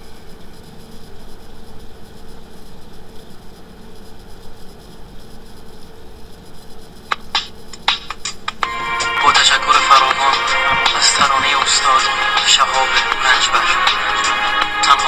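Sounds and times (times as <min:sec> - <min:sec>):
background hiss and hum: 0:00.0 - 0:15.0.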